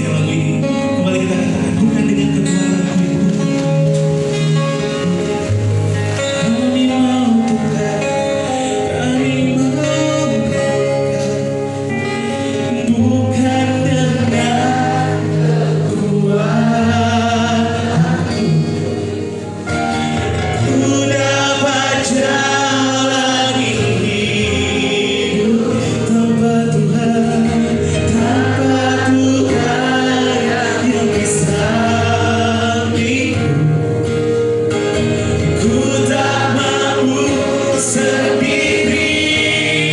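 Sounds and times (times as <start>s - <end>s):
person singing with vibrato: 0.0s - 39.9s.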